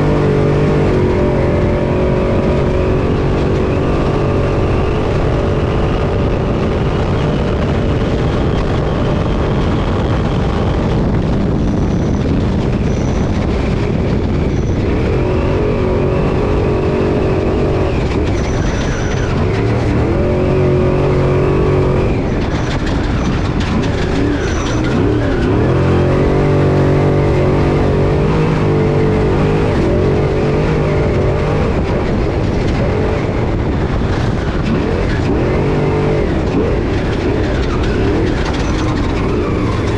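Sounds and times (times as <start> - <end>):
race truck engine revving: 0.0 - 39.9
rumble and rattle over rough terrain: 0.0 - 39.9.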